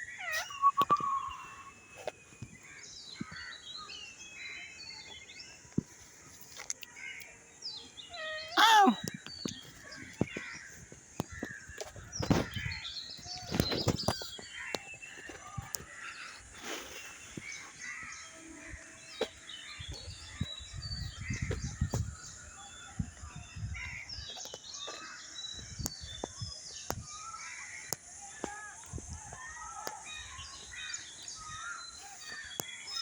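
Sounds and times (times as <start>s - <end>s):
birds chirping and calling: 0.0s - 33.0s.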